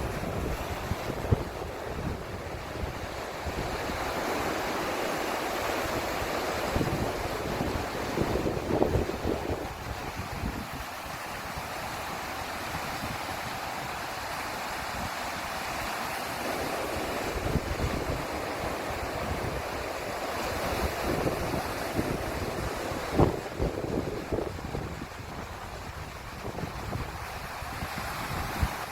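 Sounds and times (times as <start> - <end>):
sea surf washing on shore: 0.0 - 28.9
wind buffeting microphone: 0.0 - 28.9.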